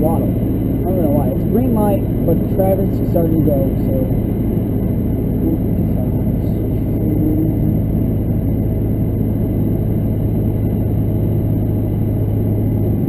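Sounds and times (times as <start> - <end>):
diesel engine droning: 0.0 - 13.0
road noise inside vehicle: 0.0 - 13.0.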